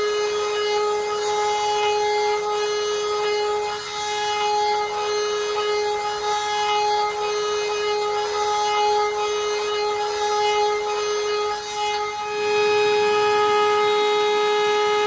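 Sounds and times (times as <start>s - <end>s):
cutter milling metal: 0.0s - 14.0s
router spindle whine: 0.0s - 15.0s.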